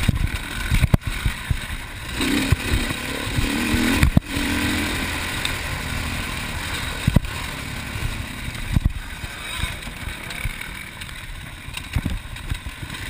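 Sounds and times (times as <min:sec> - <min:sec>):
motorcycle engine under throttle: 0:00.0 - 0:13.0
rattling from bumpy ride: 0:00.0 - 0:13.0.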